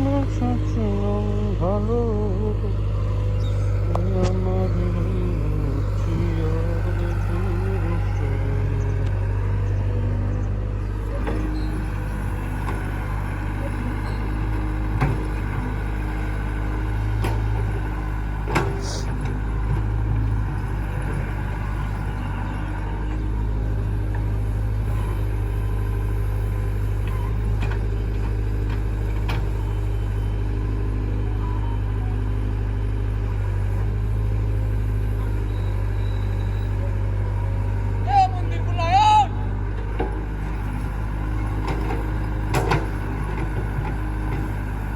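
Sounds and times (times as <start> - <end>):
diesel machinery engine running: 0.0 - 44.9.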